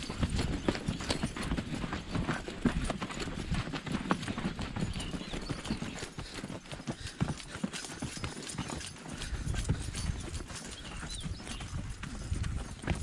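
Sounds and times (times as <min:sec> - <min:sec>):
horse hooves on dirt trail: 0:00.0 - 0:13.0.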